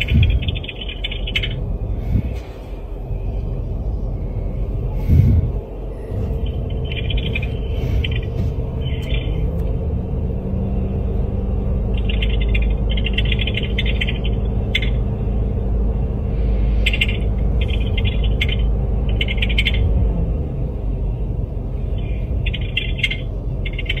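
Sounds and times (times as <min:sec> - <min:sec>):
car idling rumble: 0:00.0 - 0:24.0.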